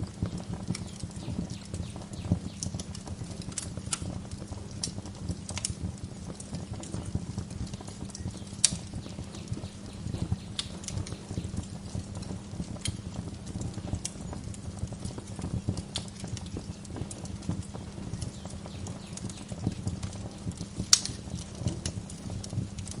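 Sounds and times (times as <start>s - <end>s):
fire pops and snaps: 0.0s - 23.0s
wood fire crackling: 0.0s - 23.0s.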